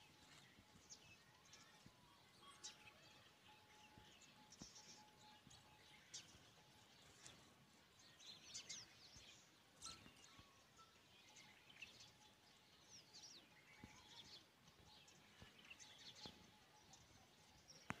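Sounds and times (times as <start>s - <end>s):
small birds chirping and twittering: 0.0s - 18.0s.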